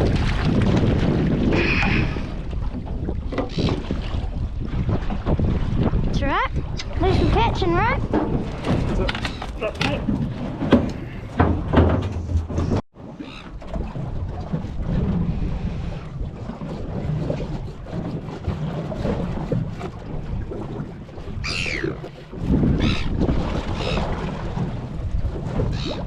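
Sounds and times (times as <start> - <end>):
sea noise: 0.0 - 26.0
wind buffeting microphone: 0.0 - 26.0.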